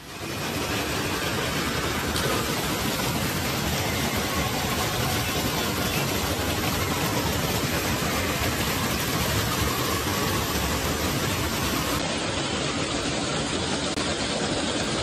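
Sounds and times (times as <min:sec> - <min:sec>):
fountain jets splashing into water: 0:00.0 - 0:15.0.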